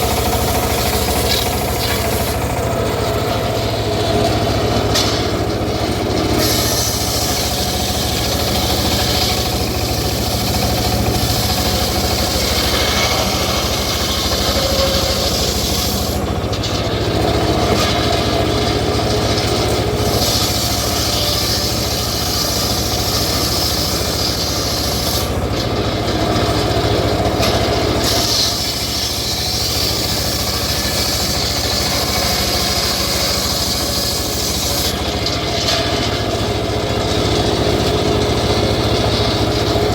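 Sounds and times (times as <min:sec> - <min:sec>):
engine-driven saw cutting timber: 0:00.0 - 0:39.9.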